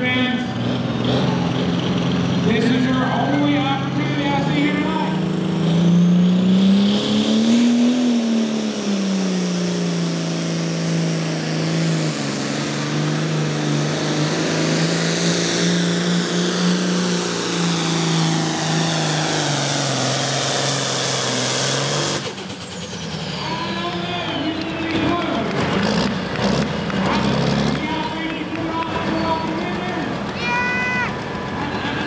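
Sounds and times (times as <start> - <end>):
diesel tractor engine under load: 0.0 - 32.0.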